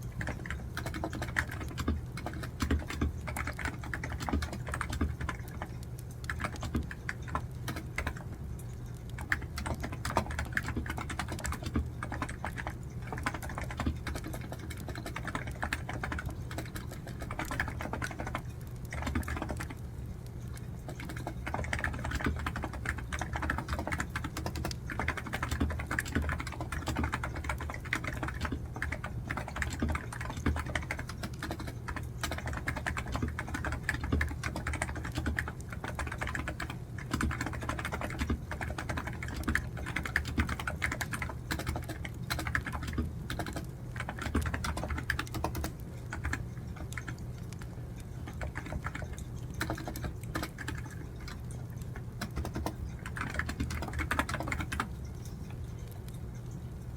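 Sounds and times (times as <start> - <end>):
fast typing on keyboard: 0.0 - 56.5.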